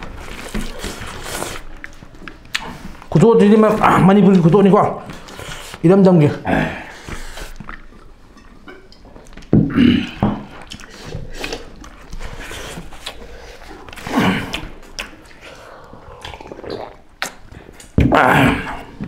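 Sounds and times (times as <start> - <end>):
people chewing: 0.0 - 19.0.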